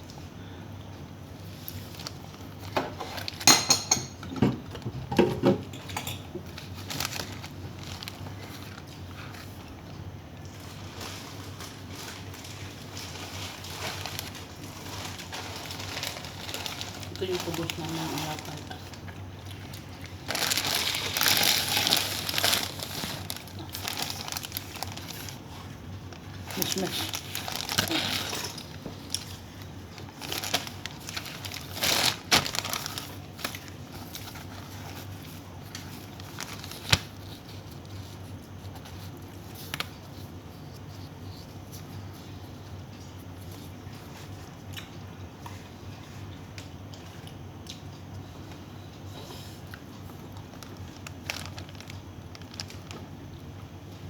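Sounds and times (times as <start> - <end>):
crinkling and rustling: 1.4 - 45.0, 49.7 - 54.0.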